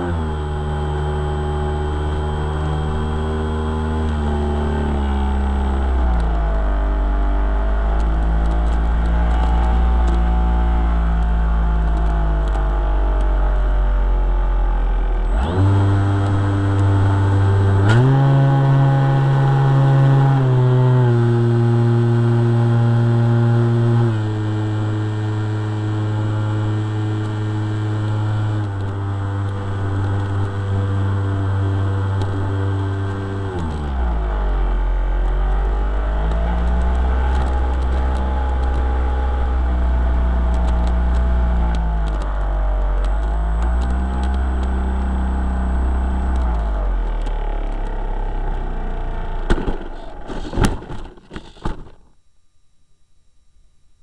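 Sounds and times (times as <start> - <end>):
electric motor and propeller whining: 0.0 - 50.6.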